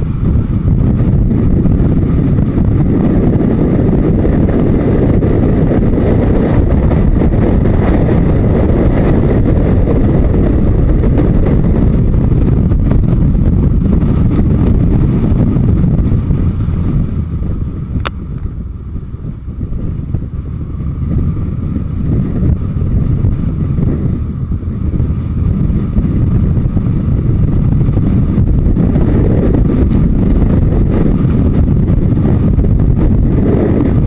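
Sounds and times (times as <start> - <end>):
motorcycle engine at road speed: 0.0 - 34.0
wind rush on microphone: 0.0 - 34.0.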